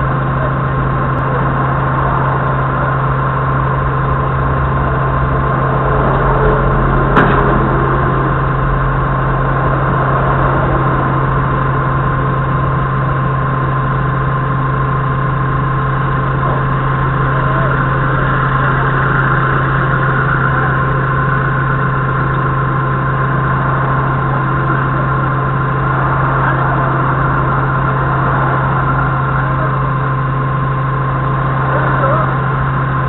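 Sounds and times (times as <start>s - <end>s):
forklift engine idling: 0.0s - 33.0s
thin steady whine: 0.0s - 33.0s.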